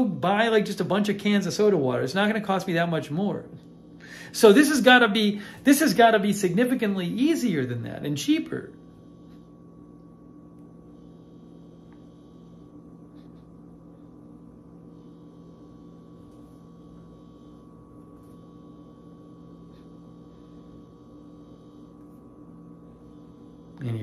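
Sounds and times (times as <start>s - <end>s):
faint high whine: 0.0s - 24.0s
low electrical hum: 0.0s - 24.0s.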